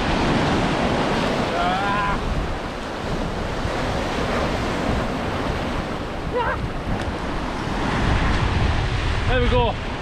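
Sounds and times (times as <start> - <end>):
sea surf breaking over rocks: 0.0 - 10.0
wind rumbling on microphone: 0.0 - 10.0.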